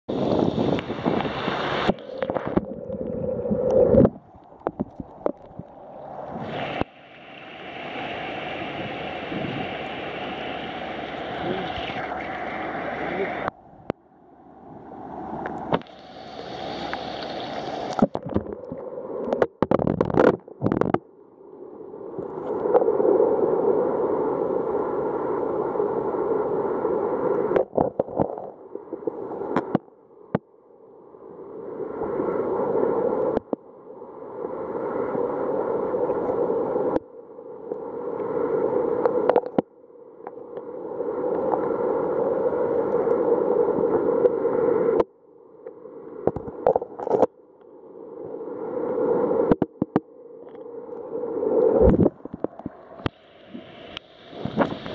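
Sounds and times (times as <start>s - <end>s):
muffled underwater water rushing: 0.1s - 54.9s.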